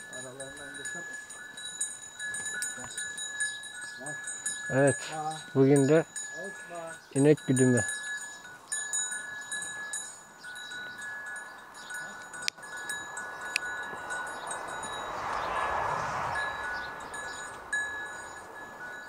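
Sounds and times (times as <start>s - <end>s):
cattle bells ringing: 0.0s - 19.0s.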